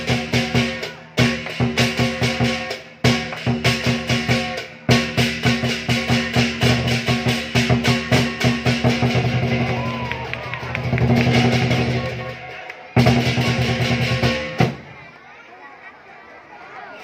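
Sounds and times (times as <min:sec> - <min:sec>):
fast drumming: 0:00.0 - 0:14.8.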